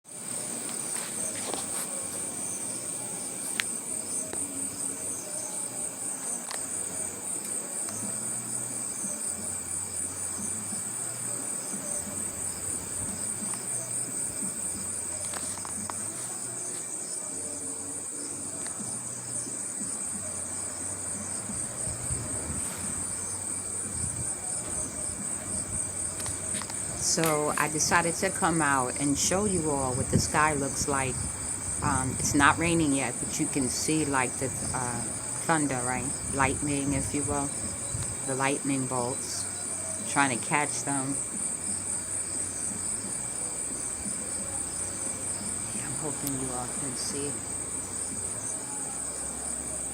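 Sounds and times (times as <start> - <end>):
crickets trilling: 0.1 - 49.9.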